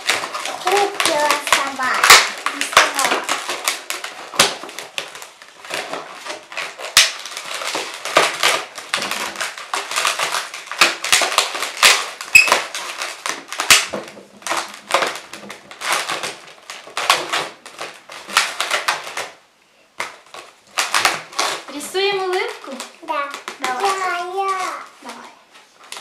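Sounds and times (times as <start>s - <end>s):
balloons squeaking and rubbing: 0.0s - 19.4s, 20.1s - 26.0s.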